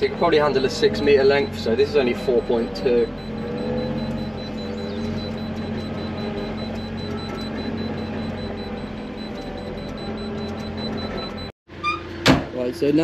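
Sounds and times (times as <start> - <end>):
high-pitched warning beep: 0.0 - 11.5
diesel engine running steadily: 0.0 - 13.0.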